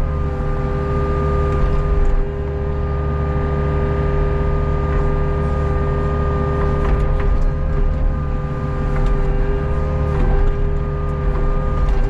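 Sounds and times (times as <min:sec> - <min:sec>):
excavator diesel engine running: 0:00.0 - 0:12.0
hydraulic whine: 0:00.0 - 0:12.0.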